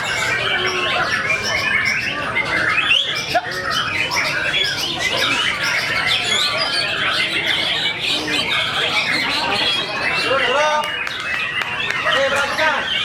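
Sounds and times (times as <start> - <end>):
birds singing whistles and chirps: 0.0 - 13.0.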